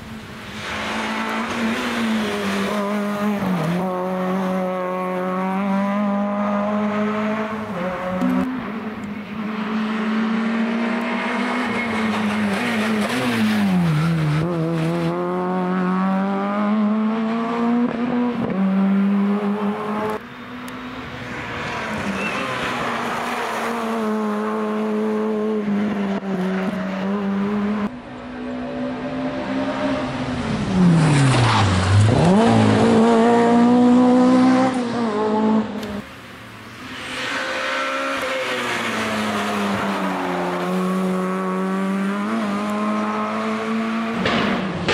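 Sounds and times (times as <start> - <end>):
rally car engines revving: 0.1 - 44.9.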